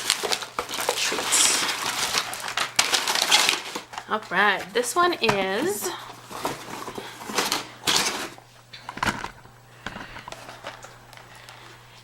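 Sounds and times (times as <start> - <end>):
low steady hum: 0.0 - 12.0
treat bag rustling: 0.0 - 12.0.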